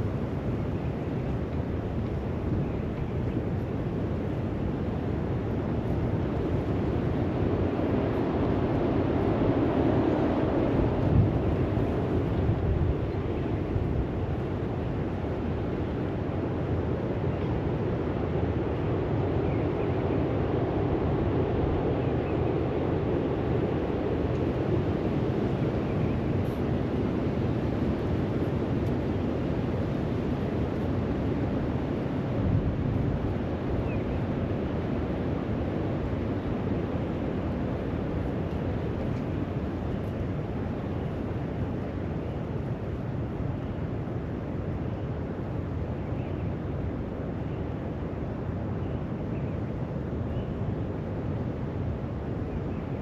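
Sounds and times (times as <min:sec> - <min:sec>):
wind buffeting microphone: 0:00.0 - 0:45.8.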